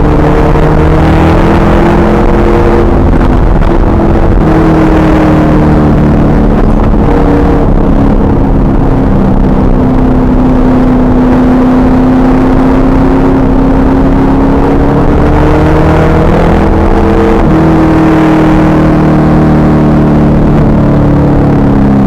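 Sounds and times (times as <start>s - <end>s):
car engine running hard: 0.0s - 22.0s
wind and road noise: 0.0s - 22.0s.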